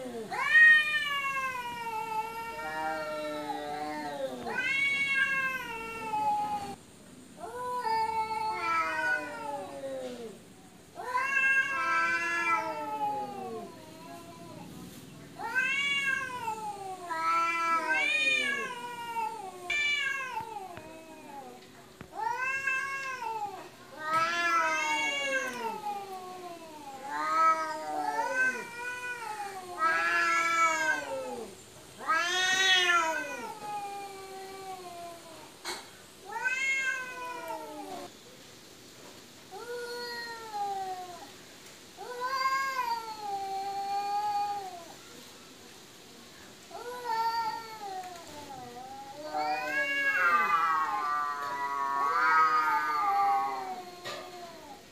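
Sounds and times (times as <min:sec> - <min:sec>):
cats yowling in a fight: 0:00.0 - 0:06.8, 0:07.4 - 0:14.7, 0:15.4 - 0:35.5, 0:36.2 - 0:38.1, 0:42.0 - 0:45.0, 0:46.7 - 0:54.9.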